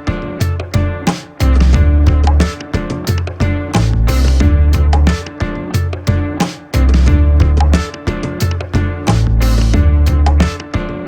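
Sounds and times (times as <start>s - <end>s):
music with heavy bass and guitar: 0.0s - 11.0s.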